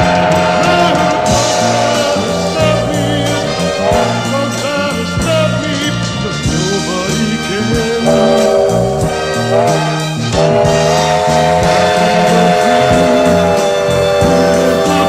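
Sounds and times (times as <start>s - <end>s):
orchestral pop song: 0.0s - 15.0s.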